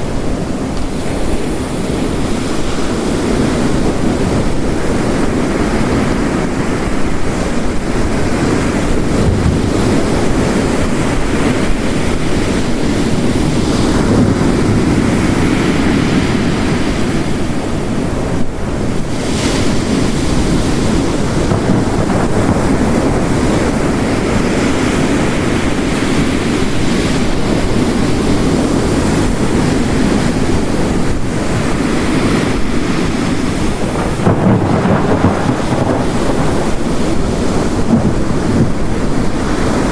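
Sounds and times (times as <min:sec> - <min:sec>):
heavy rain: 0:00.0 - 0:39.9
ocean waves breaking on rocks: 0:00.0 - 0:39.9.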